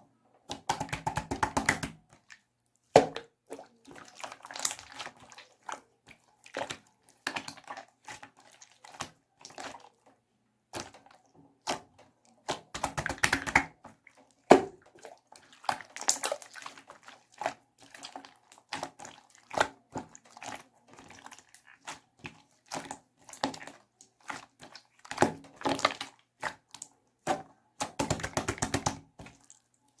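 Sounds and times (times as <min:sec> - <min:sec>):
slime squelching: 0:00.4 - 0:30.0.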